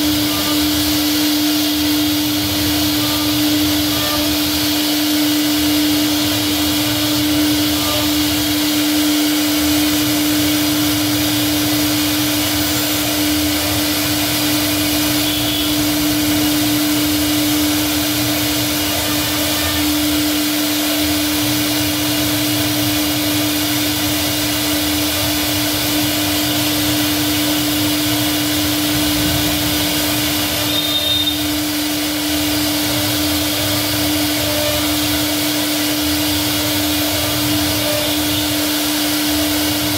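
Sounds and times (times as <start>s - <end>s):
router spindle whining hum: 0.0s - 39.9s.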